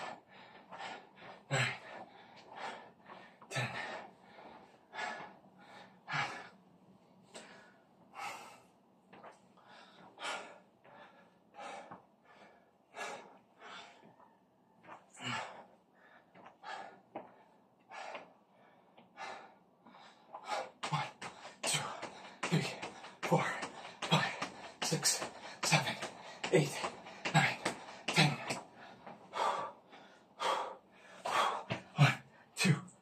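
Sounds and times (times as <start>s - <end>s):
man gasping for breath: 0.0s - 6.6s, 9.6s - 14.1s, 15.1s - 33.0s.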